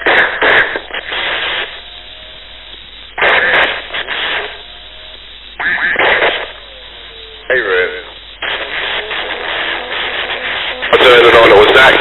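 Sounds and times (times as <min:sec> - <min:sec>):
quiet radio hiss: 0:00.0 - 0:12.0
radio static hiss bursts: 0:00.0 - 0:12.0.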